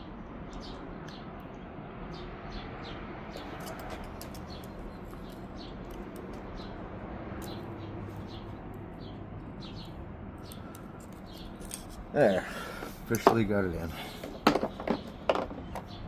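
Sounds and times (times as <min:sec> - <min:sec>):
low steady background hum: 0:00.0 - 0:16.0
small birds chirping: 0:00.0 - 0:16.0.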